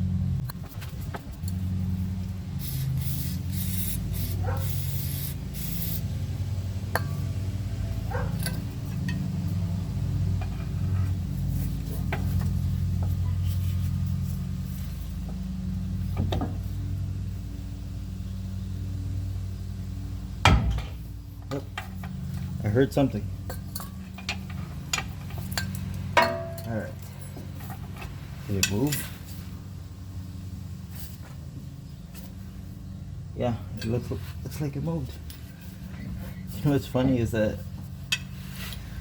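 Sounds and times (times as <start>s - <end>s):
low hum: 0.0s - 39.0s.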